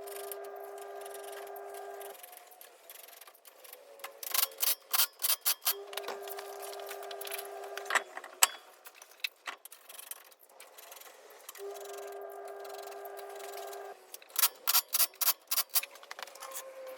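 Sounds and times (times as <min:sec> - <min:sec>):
mechanical hum: 0:00.0 - 0:16.9.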